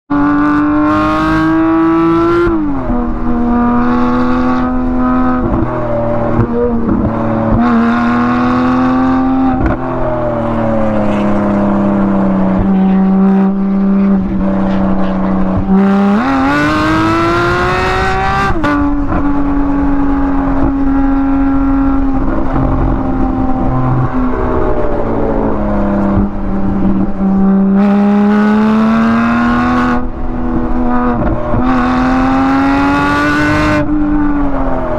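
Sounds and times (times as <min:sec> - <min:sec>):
sports car engine revving: 0:00.1 - 0:34.9.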